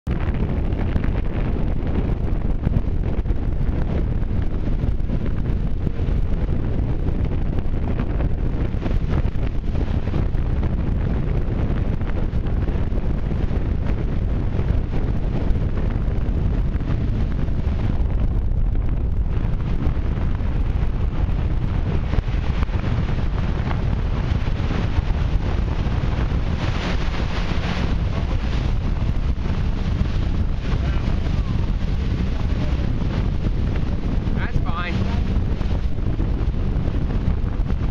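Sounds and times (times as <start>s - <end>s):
water rushing along hull: 0.0s - 37.9s
wind buffeting microphone: 0.0s - 37.9s.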